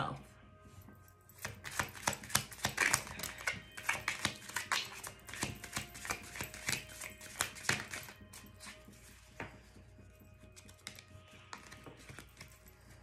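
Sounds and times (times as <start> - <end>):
cards being shuffled: 1.3 - 9.8, 10.5 - 13.0.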